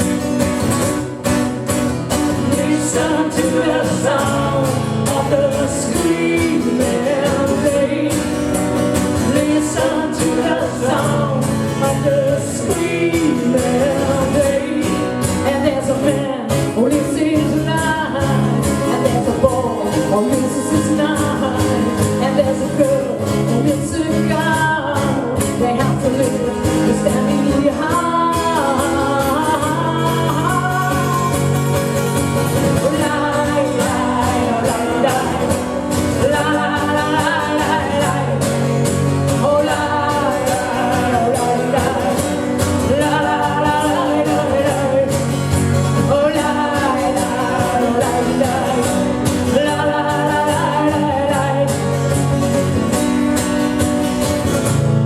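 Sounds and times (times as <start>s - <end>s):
acoustic trio playing rock song: 0.0s - 55.0s.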